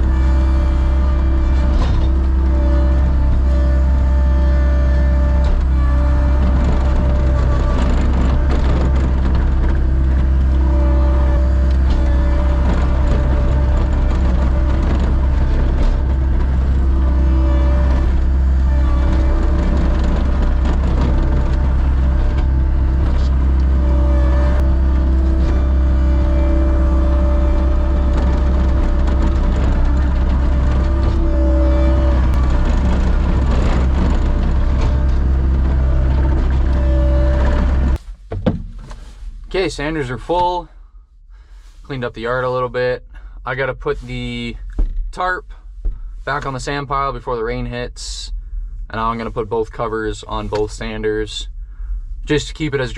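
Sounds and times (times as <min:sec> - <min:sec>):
low engine rumble: 0:00.0 - 0:52.9.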